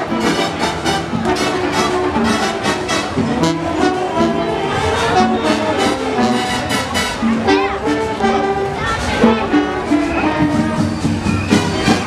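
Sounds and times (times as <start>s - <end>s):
brass band music: 0.0s - 12.0s.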